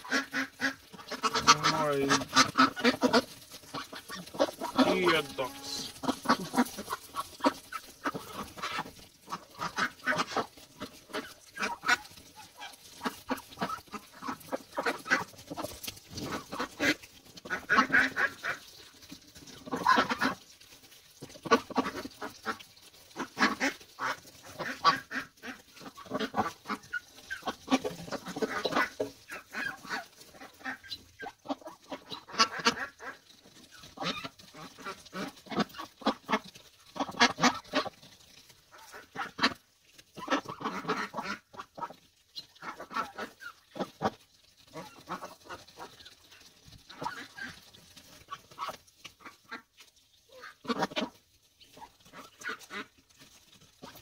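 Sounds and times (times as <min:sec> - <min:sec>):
bills pecking on dirt: 0:00.0 - 0:54.0
ducks quacking: 0:00.0 - 0:54.0.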